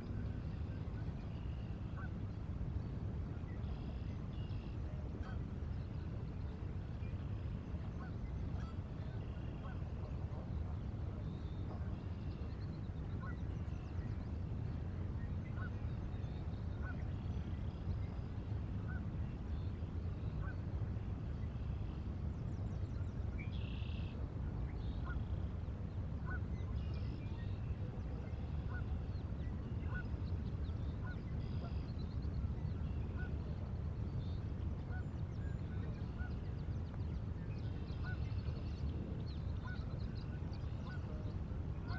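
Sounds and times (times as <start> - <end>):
river: 0.0 - 41.9
wind: 0.0 - 41.9.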